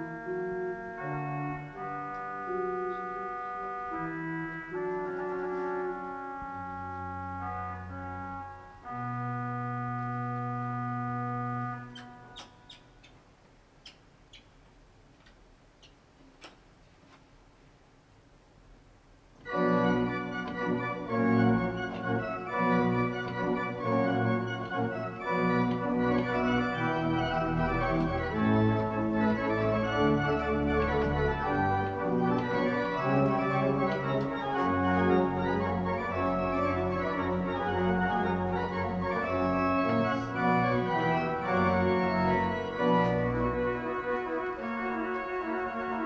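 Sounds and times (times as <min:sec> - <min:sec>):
pipe organ playing: 0:00.0 - 0:12.8, 0:19.4 - 0:46.0.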